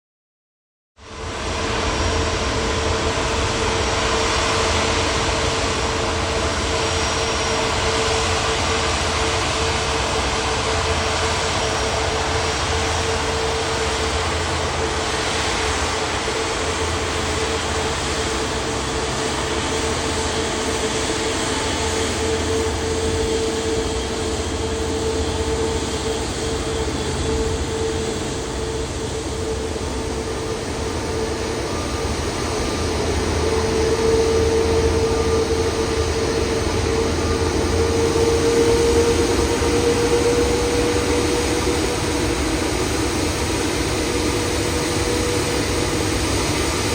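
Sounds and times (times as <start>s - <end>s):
jet engines rushing with hum: 1.0s - 46.9s.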